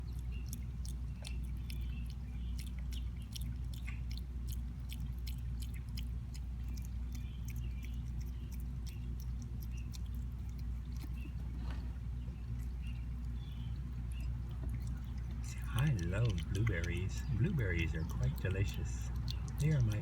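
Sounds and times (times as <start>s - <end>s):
animal chewing clicks: 0.0s - 20.0s
steady low hum: 0.0s - 20.0s.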